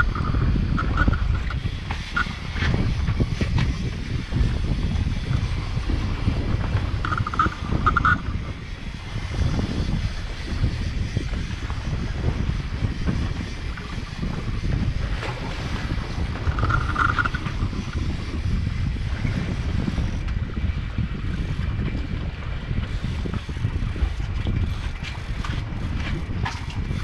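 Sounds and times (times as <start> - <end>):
water noise: 0.0 - 27.0
wind buffeting microphone: 0.0 - 27.0.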